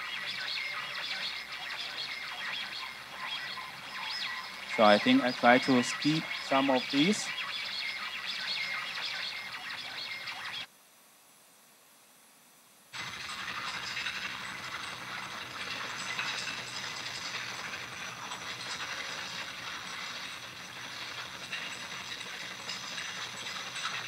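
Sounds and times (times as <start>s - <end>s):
film soundtrack through speakers: 0.0s - 10.7s, 13.0s - 24.0s.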